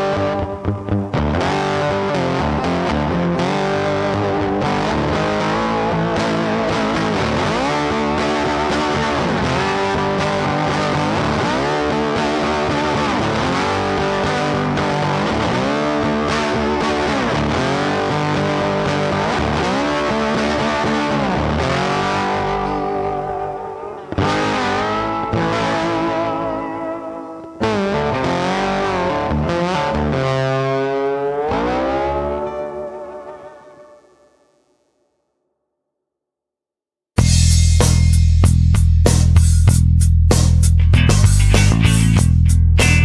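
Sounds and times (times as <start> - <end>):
rock music with distorted guitar: 0.0 - 34.2, 37.2 - 43.0.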